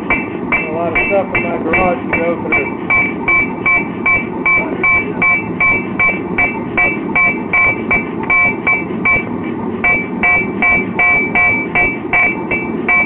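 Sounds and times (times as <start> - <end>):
hammer striking steel on anvil: 0.0 - 13.0.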